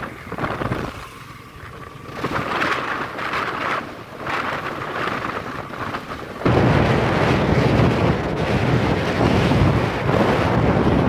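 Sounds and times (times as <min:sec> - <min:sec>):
motorcycle engine: 0:00.0 - 0:11.0
wind buffeting microphone: 0:00.0 - 0:11.0.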